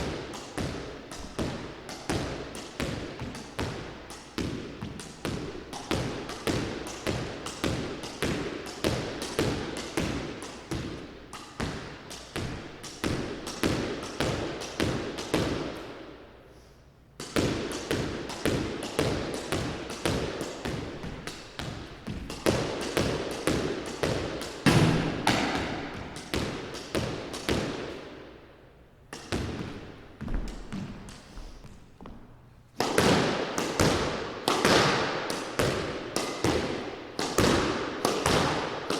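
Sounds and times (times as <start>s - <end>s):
squash ball hitting racquet and wall: 0.0s - 16.4s, 17.2s - 38.9s.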